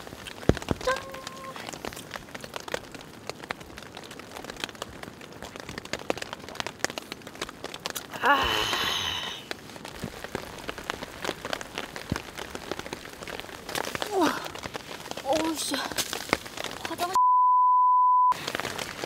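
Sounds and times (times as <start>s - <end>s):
rain on tent fabric: 0.0s - 17.2s, 18.3s - 19.0s.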